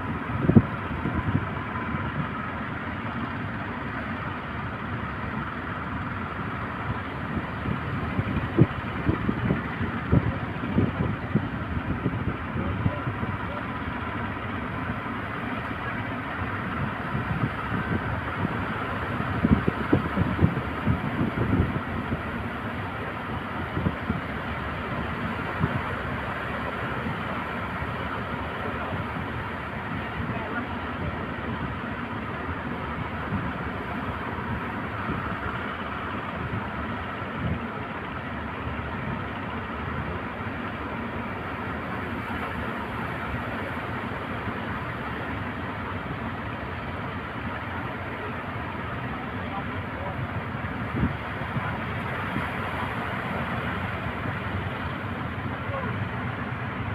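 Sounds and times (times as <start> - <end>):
heavy sea surf roar: 0.0 - 56.9.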